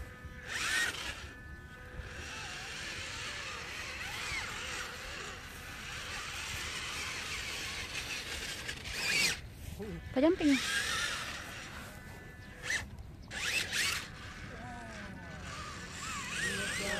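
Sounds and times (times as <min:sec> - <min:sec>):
toy truck motor whirring: 0:00.0 - 0:16.9.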